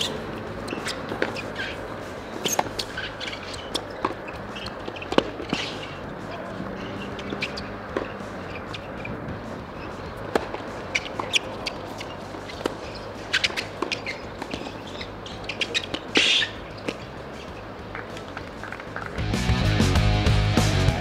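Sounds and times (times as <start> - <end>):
tennis racket striking ball: 0.0 - 1.8, 2.4 - 6.1, 6.8 - 19.1
shoe squeaks on court: 0.0 - 19.1
tennis ball bouncing: 0.0 - 19.2.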